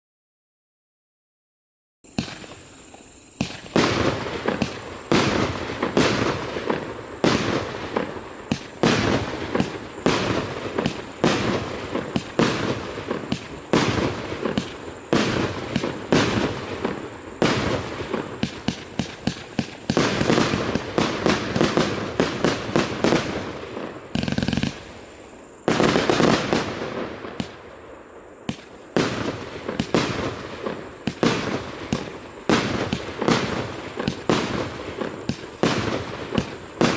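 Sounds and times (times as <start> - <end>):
firework launch shots: 2.1 - 27.6, 28.4 - 36.9
firework aerial bursts: 2.1 - 36.9.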